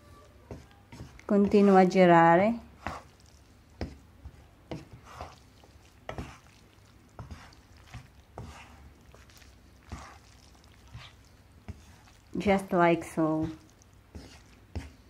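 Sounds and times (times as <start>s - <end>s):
spatulas tossing spaghetti in a pan: 0.5s - 15.0s.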